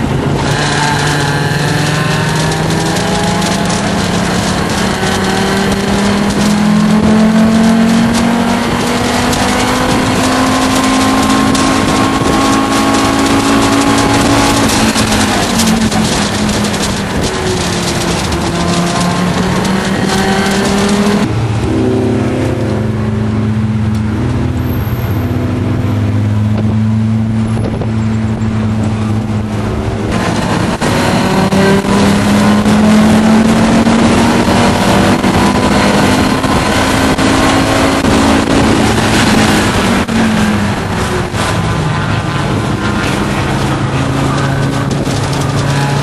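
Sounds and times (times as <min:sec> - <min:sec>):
race car engine from cabin: 0:00.0 - 0:46.0
road and wind noise: 0:00.0 - 0:46.0.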